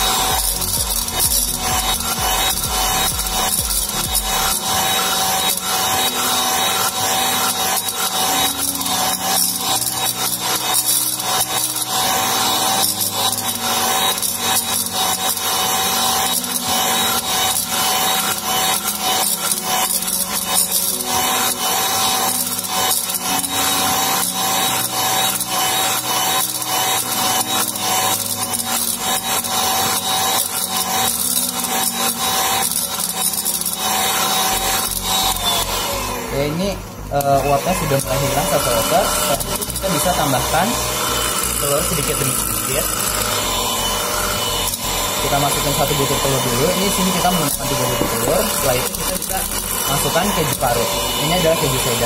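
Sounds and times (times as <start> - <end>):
hand mixer motor whine: 0.0 - 52.0.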